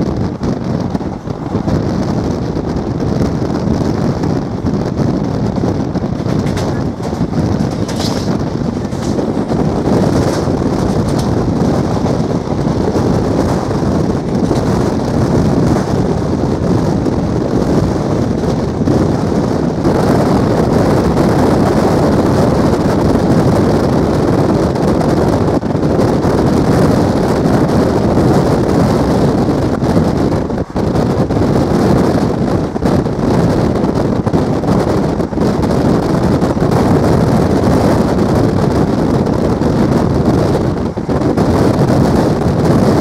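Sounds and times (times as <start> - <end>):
moving train rumble: 0.0 - 43.0
wind on microphone: 0.0 - 43.0.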